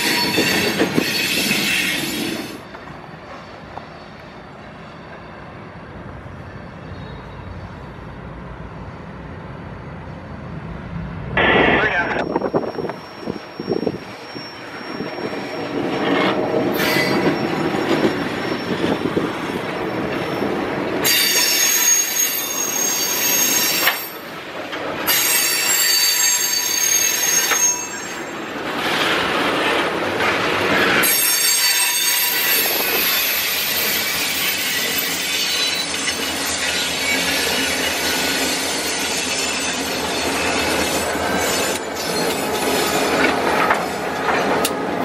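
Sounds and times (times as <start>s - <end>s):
steel wheels squealing on rails: 0.0s - 10.7s, 11.4s - 45.0s
freight train cars rumbling: 0.0s - 45.0s.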